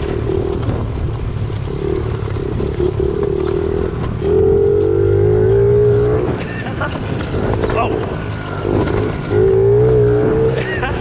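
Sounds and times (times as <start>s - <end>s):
pit bike engine revving: 0.0s - 11.0s.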